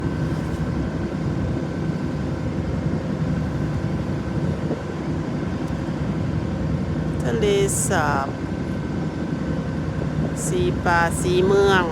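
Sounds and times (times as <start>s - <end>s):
boat engine rumbling: 0.0s - 11.9s
faint steady whine: 0.0s - 11.9s.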